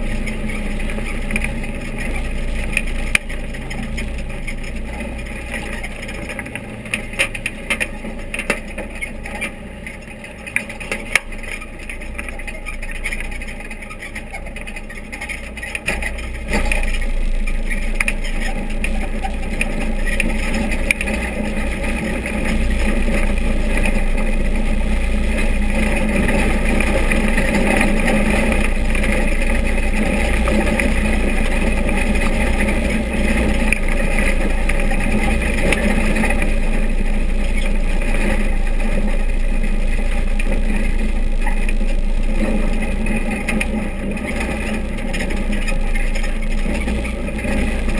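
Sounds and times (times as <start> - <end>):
race car engine rumble: 0.0 - 47.9.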